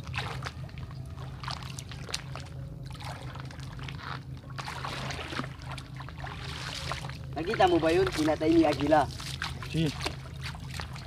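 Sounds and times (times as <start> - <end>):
feet splashing in muddy water: 0.0 - 11.0
steady low hum: 0.0 - 11.0.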